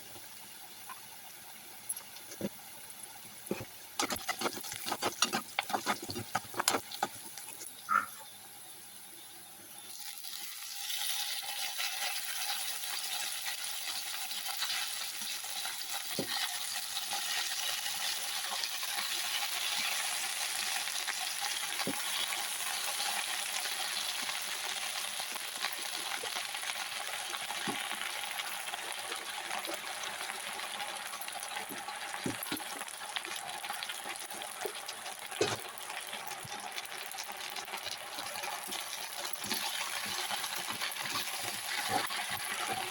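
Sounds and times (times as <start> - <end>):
food sizzling in a pan: 0.0 - 42.9.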